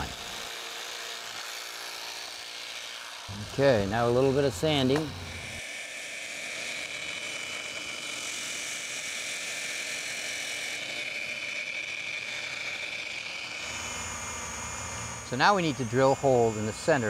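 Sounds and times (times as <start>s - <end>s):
electric sander whining: 0.0s - 17.0s.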